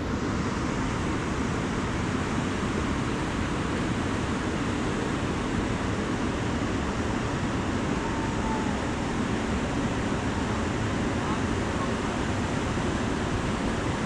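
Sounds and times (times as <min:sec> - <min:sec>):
river water rushing: 0:00.3 - 0:14.0.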